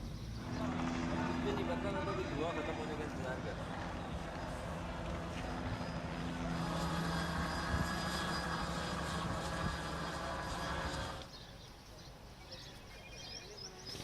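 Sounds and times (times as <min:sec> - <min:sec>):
engine drone: 0:00.0 - 0:11.3
outdoor noise: 0:00.0 - 0:14.0.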